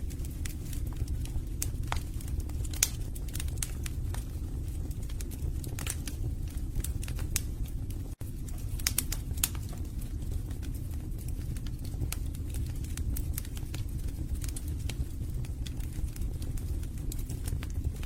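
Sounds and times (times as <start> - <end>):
logs crackling and popping: 0.0 - 18.0
low rumble of flames: 0.0 - 18.0.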